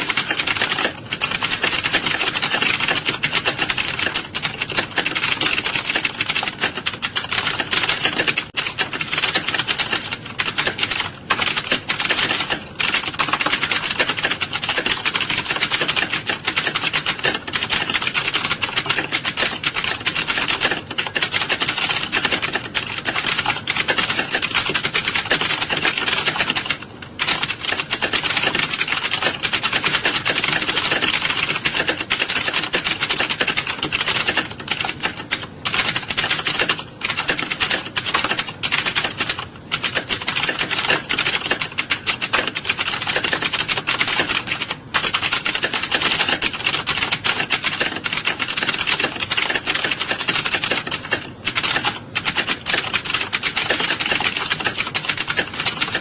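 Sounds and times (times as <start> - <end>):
many keyboards clattering: 0.0 - 56.0.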